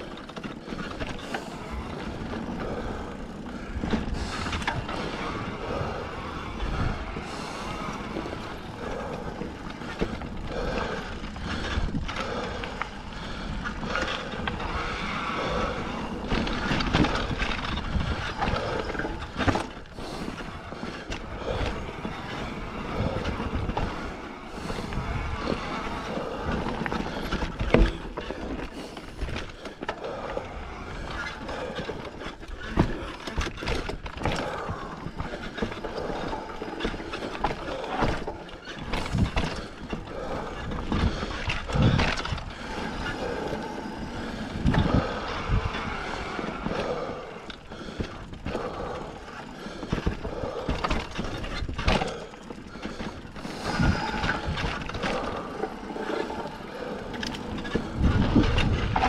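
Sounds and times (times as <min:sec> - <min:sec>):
bike rattling over bumps: 0:00.0 - 0:59.0.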